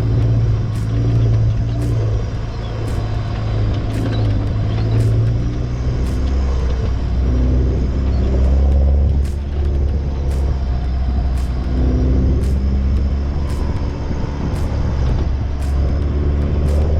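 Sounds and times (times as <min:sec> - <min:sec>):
vehicle engine and road drone: 0:00.0 - 0:16.9.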